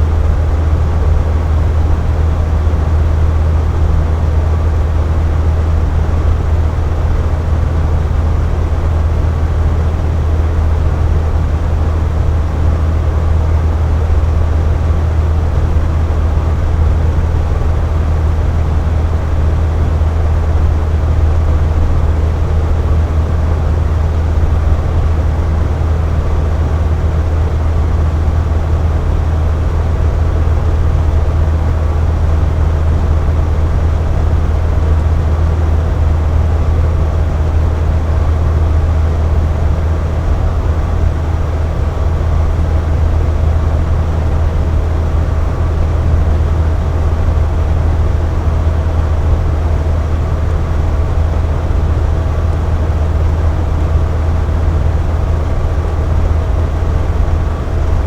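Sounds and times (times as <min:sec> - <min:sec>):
box fan running: 0:00.0 - 0:58.0.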